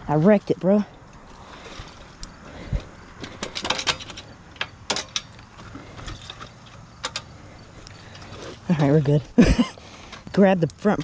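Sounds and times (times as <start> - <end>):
dirt bike parts rattling: 0.1 - 11.0.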